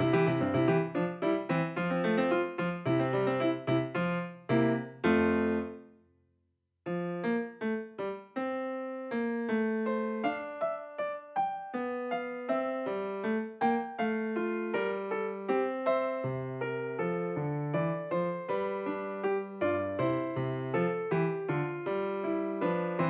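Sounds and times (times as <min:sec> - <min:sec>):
solo piano music: 0:00.0 - 0:06.0, 0:06.9 - 0:23.0.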